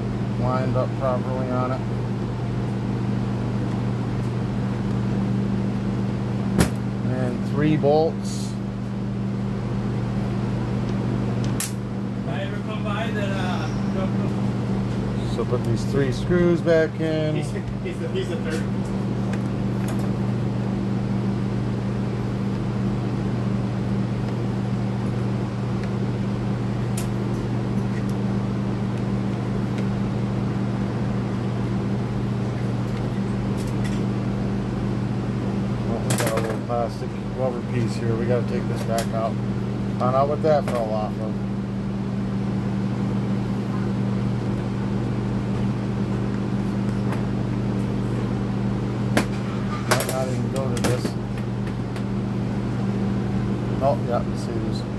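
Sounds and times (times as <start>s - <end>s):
electric fans humming: 0.0s - 54.9s.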